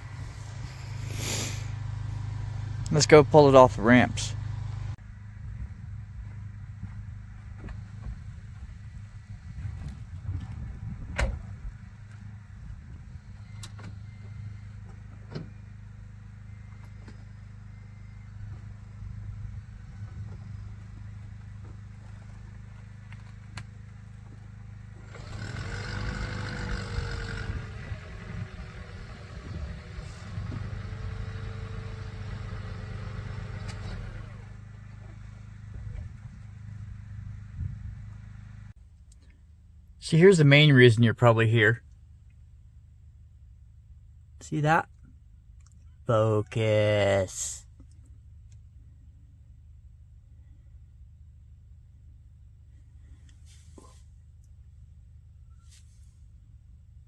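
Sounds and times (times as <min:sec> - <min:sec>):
car running hum: 0:00.0 - 0:57.0.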